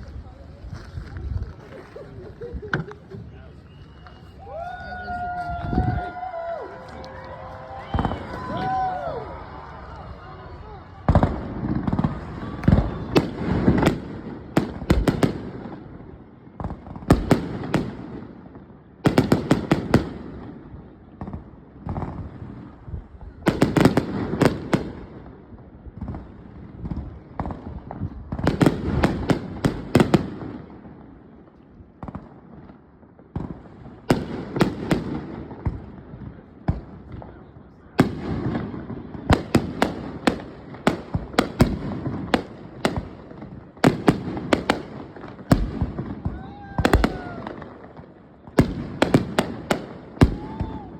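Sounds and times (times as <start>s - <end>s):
fireworks crackling and booming: 0.0s - 50.9s.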